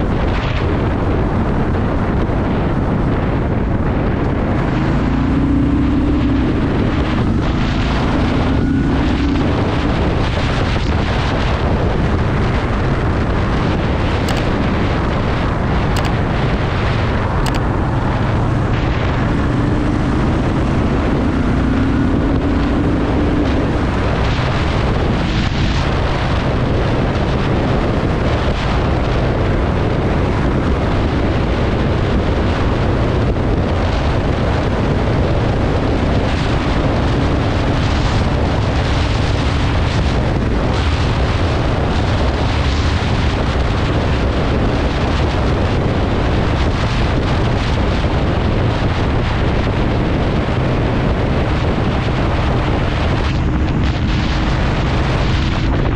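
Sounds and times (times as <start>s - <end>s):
motorcycle engine rumbling: 0.0s - 55.9s
wind buffeting microphone: 0.0s - 55.9s.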